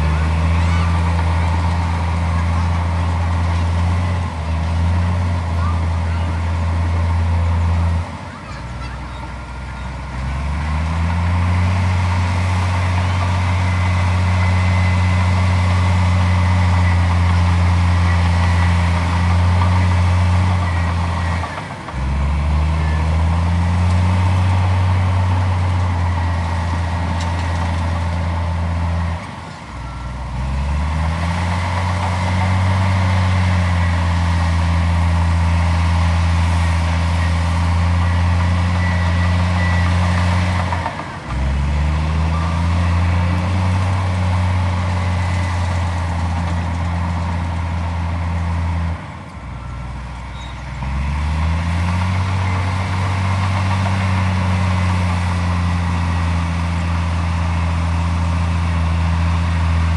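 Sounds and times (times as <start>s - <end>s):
heavy diesel engine running hard: 0.0s - 59.9s.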